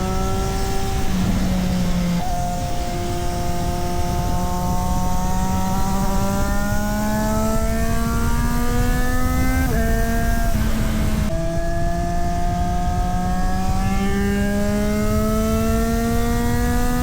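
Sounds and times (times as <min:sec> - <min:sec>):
motorcycle engine revving under load: 0:00.0 - 0:17.0.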